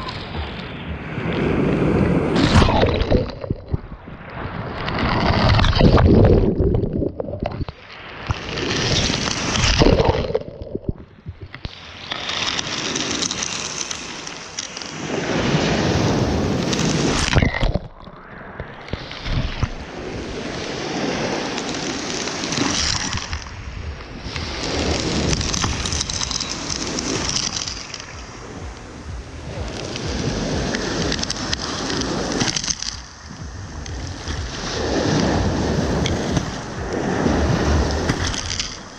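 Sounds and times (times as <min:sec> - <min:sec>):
sea surf rushing and splashing: 0:00.0 - 0:38.9.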